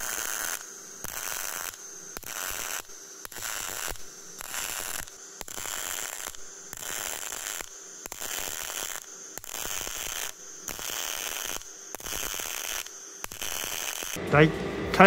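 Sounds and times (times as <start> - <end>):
welding arc crackling: 0.0 - 14.2.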